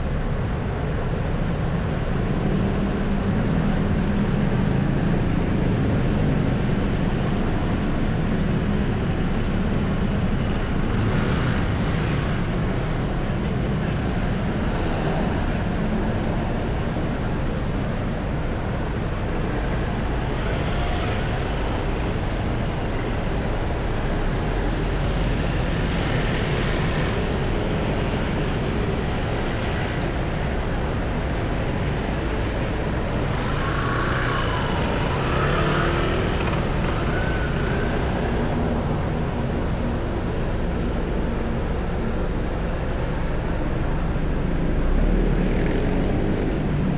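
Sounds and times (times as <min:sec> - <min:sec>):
city traffic rumble: 0:00.0 - 0:46.9.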